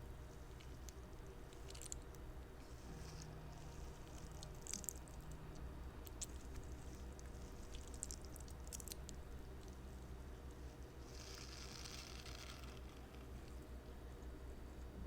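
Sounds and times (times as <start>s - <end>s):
squishy toy squishing and crackling: 0.3s - 5.4s, 6.0s - 13.6s.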